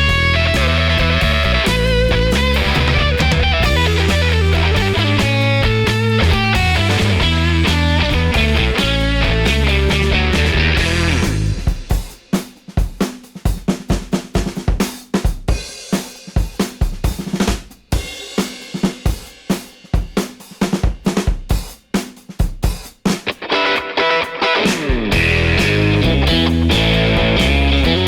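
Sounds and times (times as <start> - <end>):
drum kit playing a fast beat: 0.0 - 23.4, 24.5 - 28.0.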